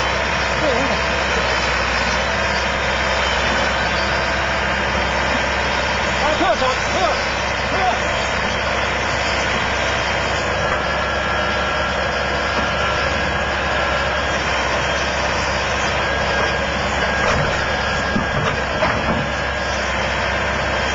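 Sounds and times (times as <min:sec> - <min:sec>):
heavy diesel machinery running: 0:00.0 - 0:20.9.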